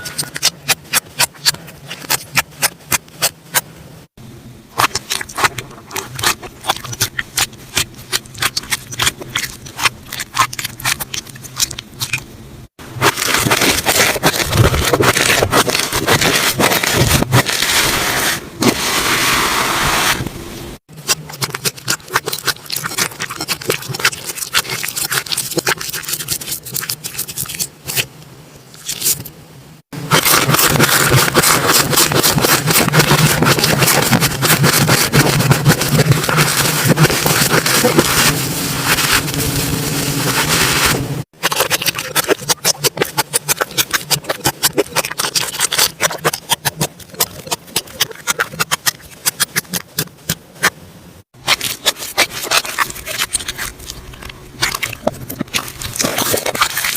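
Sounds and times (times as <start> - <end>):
slime crackling: 4.8 - 12.3, 13.0 - 18.0, 20.9 - 28.1, 30.1 - 50.7, 51.4 - 56.9.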